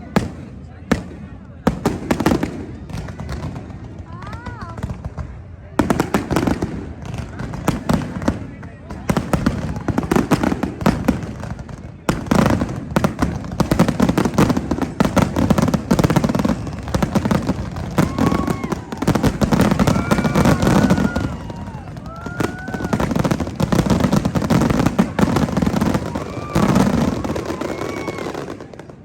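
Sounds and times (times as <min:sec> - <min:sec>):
fireworks crackling and booming: 0:00.0 - 0:29.0
whistling fireworks: 0:00.0 - 0:29.0.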